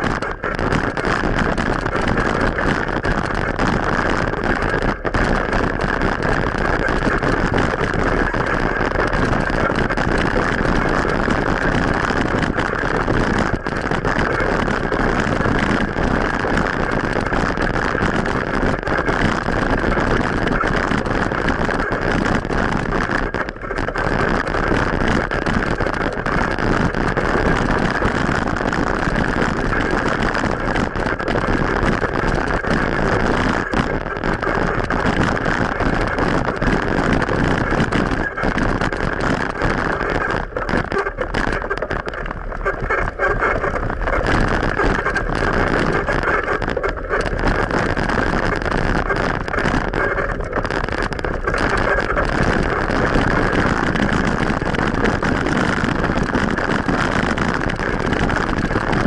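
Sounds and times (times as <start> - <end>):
bicycle road noise: 0.0 - 59.0
wind noise: 0.0 - 59.0.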